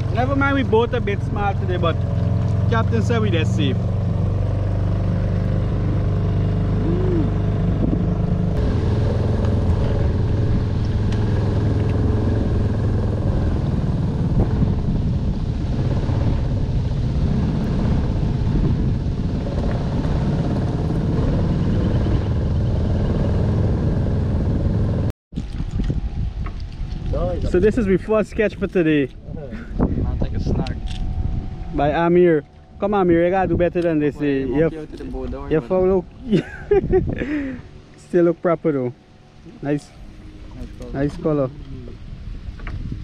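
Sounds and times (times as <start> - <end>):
outboard motor running: 0.0 - 28.2, 35.6 - 43.0.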